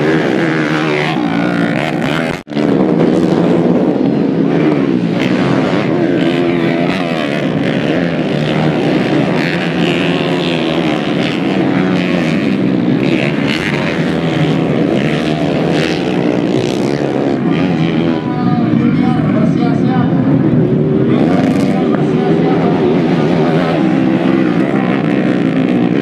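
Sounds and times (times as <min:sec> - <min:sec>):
trail bike engines racing: 0:00.0 - 0:26.0.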